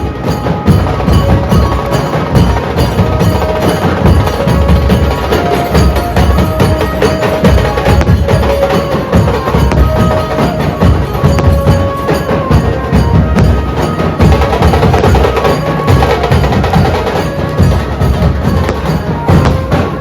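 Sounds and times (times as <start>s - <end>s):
drum group drumming fast: 0.0s - 20.0s.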